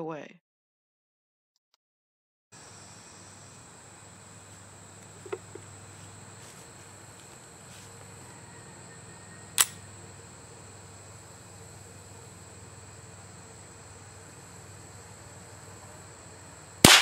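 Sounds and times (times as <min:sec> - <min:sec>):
high insect trill: 0:02.6 - 0:17.0.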